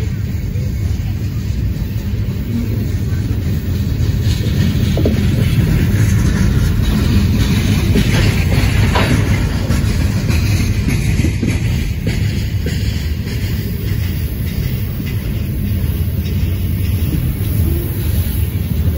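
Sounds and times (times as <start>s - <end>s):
steel wheels rumbling on rails: 0.0s - 18.9s.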